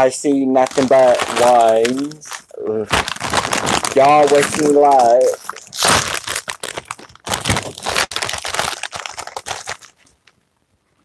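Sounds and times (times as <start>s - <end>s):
plastic chip bag crinkling: 0.6s - 10.4s.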